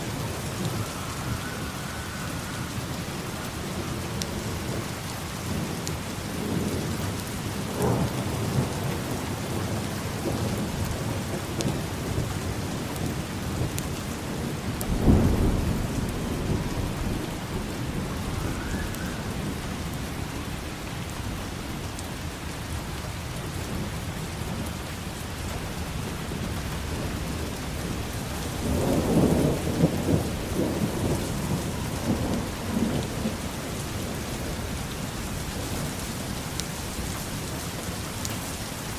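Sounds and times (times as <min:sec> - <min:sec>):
thunder clap and rumble: 0:00.0 - 0:38.0
steady rain falling: 0:00.0 - 0:38.9.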